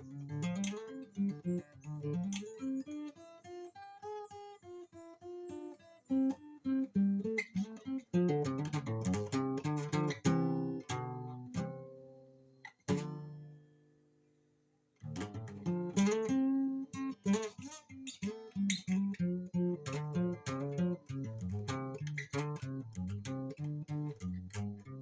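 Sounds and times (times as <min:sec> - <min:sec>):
solo blues guitar: 0:00.0 - 0:13.9, 0:15.0 - 0:25.0.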